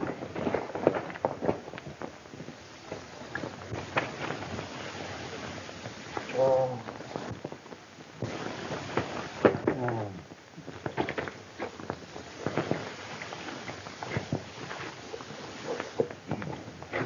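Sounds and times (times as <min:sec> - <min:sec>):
horse hooves on hard ground: 0:00.0 - 0:06.3, 0:06.9 - 0:09.6, 0:10.5 - 0:17.0.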